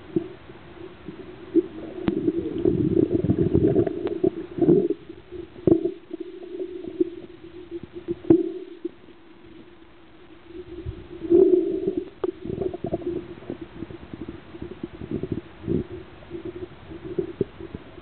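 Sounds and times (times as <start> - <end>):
steady low hum: 0.0 - 18.0
diver exhaling bubbles: 1.0 - 9.0, 10.6 - 18.0.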